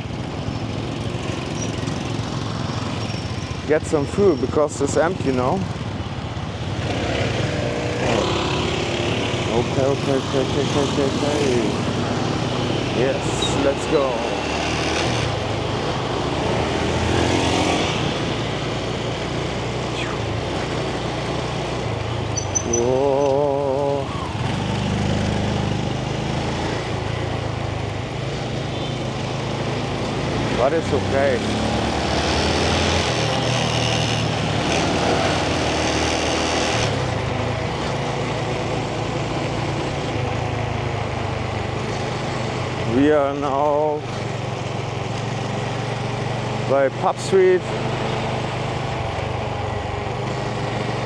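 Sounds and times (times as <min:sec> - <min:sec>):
street noise: 0:00.0 - 0:51.0.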